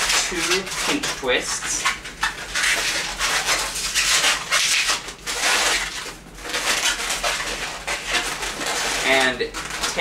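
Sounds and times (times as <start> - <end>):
balloon latex rubbing: 0.0 - 10.0.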